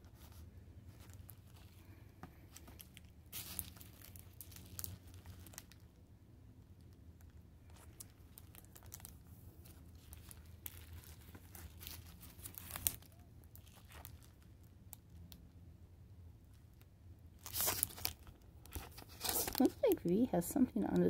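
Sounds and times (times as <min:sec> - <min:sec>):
plastic sleeves crinkling: 0:00.0 - 0:06.1, 0:06.8 - 0:15.5, 0:16.4 - 0:21.0.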